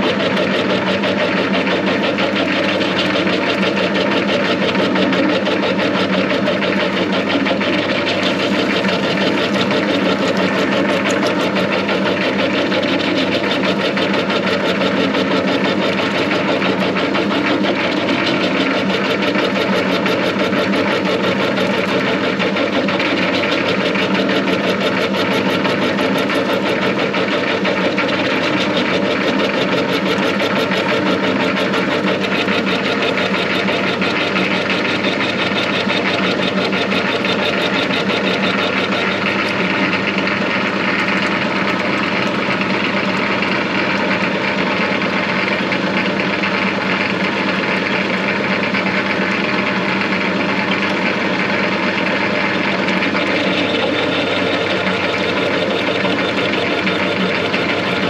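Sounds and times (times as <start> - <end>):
metal lathe cutting: 0.0 - 58.0.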